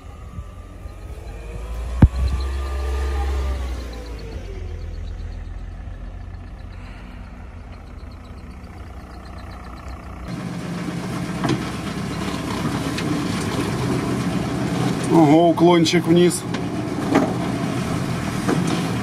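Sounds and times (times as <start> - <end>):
car engine rumbling outside: 0.0 - 19.0
van engine inside cabin: 0.0 - 19.0.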